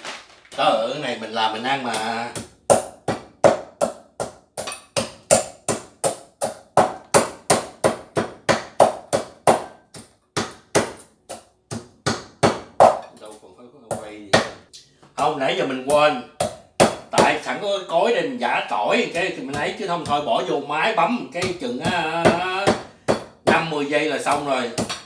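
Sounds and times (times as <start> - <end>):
wooden pestle pounding in mortar: 1.8 - 13.1, 13.9 - 14.6, 15.8 - 17.6, 18.6 - 25.0.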